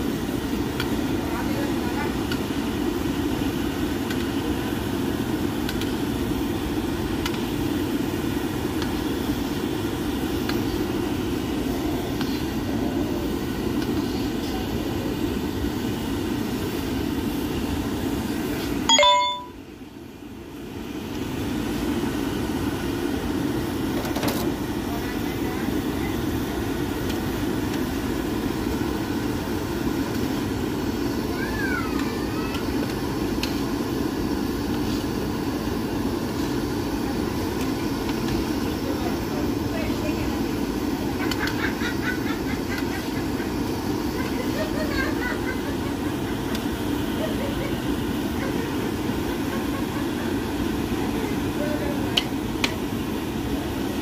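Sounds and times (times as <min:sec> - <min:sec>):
deep-frying sizzle and bubble: 0:00.0 - 0:54.0.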